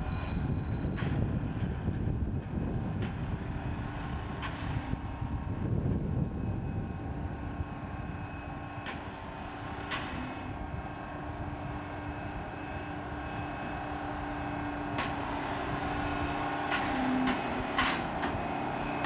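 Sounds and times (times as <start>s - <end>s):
crane engine whining: 0.0s - 19.0s.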